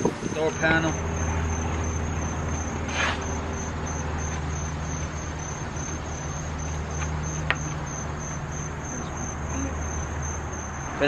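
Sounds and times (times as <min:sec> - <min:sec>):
insects chirping: 0:00.0 - 0:11.0
low hum: 0:00.0 - 0:11.0.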